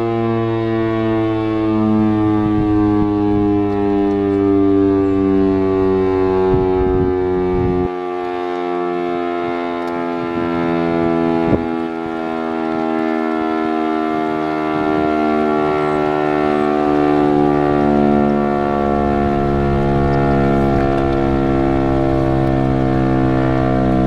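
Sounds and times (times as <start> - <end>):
siren steady tone: 0.0 - 24.0.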